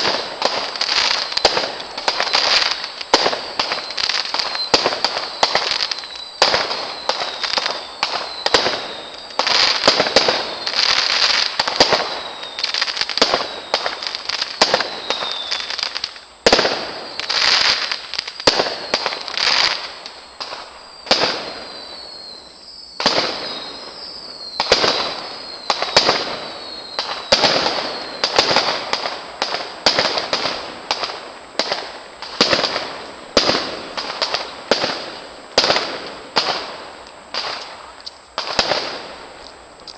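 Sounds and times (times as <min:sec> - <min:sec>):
falling firework whistles: 0:00.0 - 0:39.9
fireworks bangs and crackling: 0:00.0 - 0:39.9.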